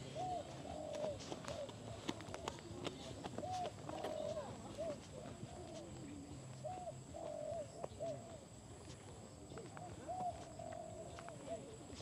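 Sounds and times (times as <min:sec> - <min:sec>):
birds calling: 0:00.0 - 0:08.5, 0:09.5 - 0:12.0.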